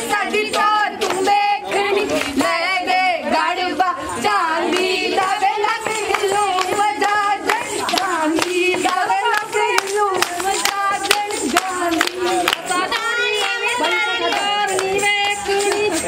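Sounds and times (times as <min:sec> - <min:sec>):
rhythmic hand clapping: 0:00.0 - 0:16.0
women singing folk songs: 0:00.0 - 0:16.0.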